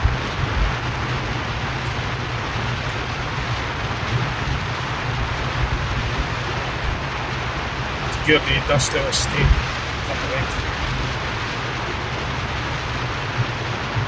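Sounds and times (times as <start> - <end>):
engine and tyre rumble: 0.0 - 14.0
tyre and wind hiss: 0.0 - 14.0.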